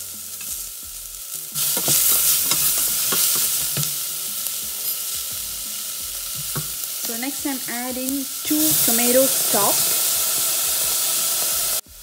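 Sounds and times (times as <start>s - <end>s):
shallots sizzling in oil: 0.0s - 12.0s.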